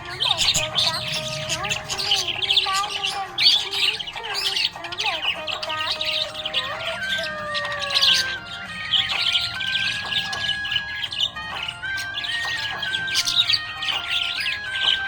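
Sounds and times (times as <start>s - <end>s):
background music with held notes: 0.0s - 15.0s
budgerigars chirping: 0.0s - 15.0s.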